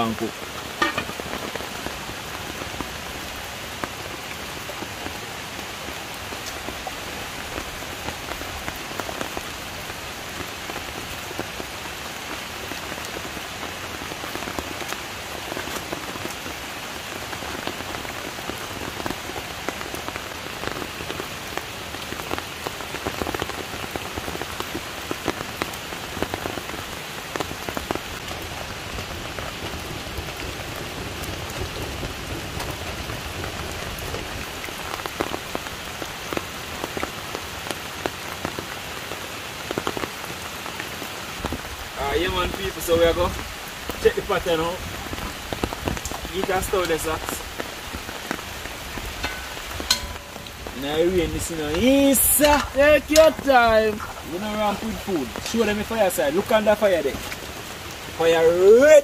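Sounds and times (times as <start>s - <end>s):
rain pattering on ground: 0.0s - 59.0s.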